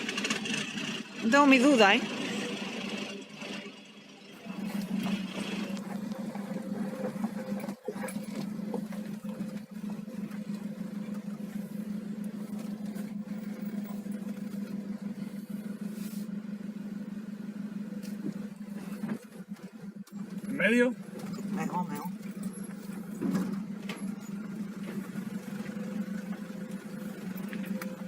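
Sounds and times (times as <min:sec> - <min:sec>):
off-road vehicle engine droning: 0:00.0 - 0:28.0.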